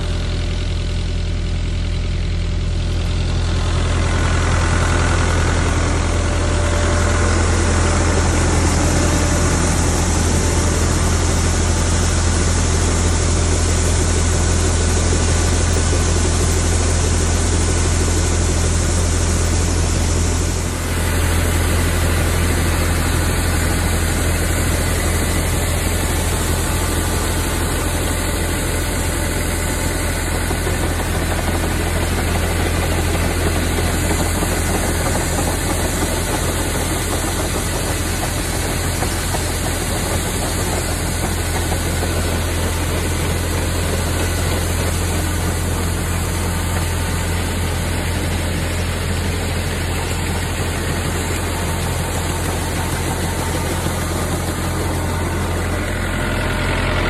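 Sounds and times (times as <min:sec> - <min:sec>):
machinery engine droning: 0:00.0 - 0:57.0
constant rushing noise: 0:06.0 - 0:57.0.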